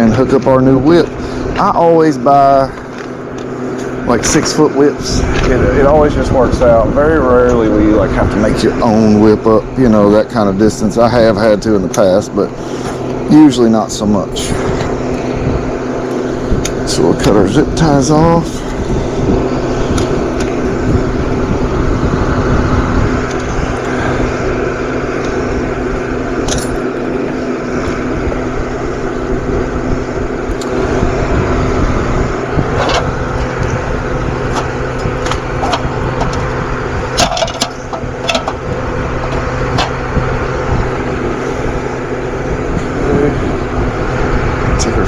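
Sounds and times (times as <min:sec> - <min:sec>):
mechanical hum: 0:00.0 - 0:45.0.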